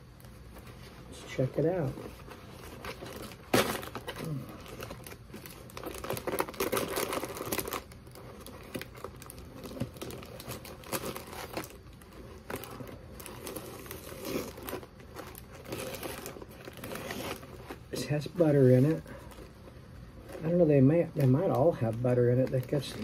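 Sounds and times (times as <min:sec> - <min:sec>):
paper bag tearing and crinkling: 0:01.1 - 0:19.4, 0:20.2 - 0:23.0.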